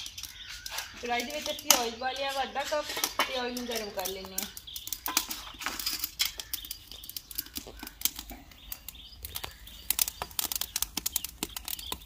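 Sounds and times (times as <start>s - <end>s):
twigs crackling in a fire: 0.0s - 12.0s.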